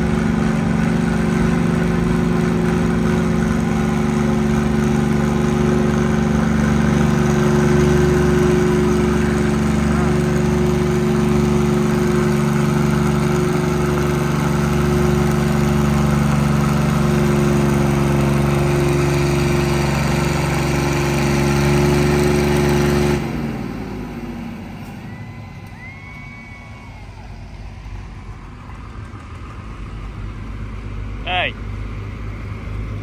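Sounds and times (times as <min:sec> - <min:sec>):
loud engine running: 0:00.0 - 0:33.0.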